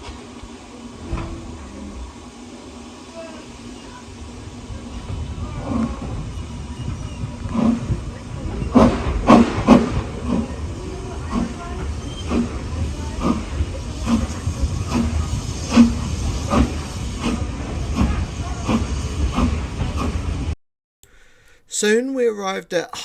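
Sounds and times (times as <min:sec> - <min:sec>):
train rumbling: 0:00.0 - 0:20.6.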